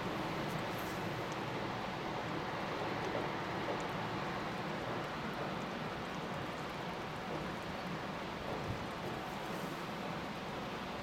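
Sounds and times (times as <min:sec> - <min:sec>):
distant train rumbling over bridge: 0:00.0 - 0:11.0
river rushing over rapids: 0:00.0 - 0:11.0.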